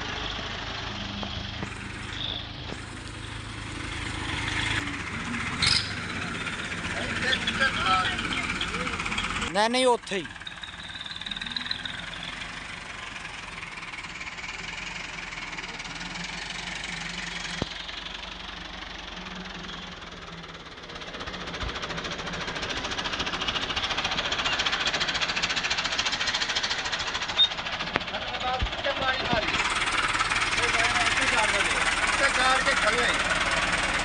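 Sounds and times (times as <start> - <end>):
diesel tractor engine knocking: 0.0 - 34.0.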